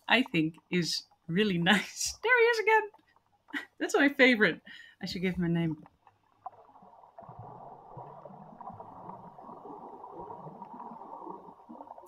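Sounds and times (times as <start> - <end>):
muffled underwater water noise: 0.0 - 12.0.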